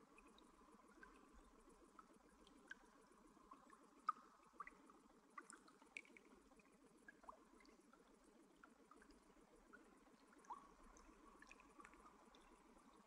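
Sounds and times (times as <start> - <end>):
faint trickling water: 0.0 - 13.0
water drips: 0.0 - 13.0.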